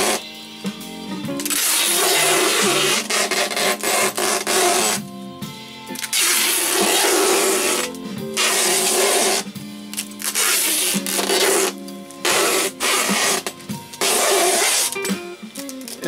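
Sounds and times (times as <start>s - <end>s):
tape screeching off dispenser: 0.0s - 0.2s, 1.4s - 5.0s, 5.9s - 16.0s
music: 0.0s - 16.0s.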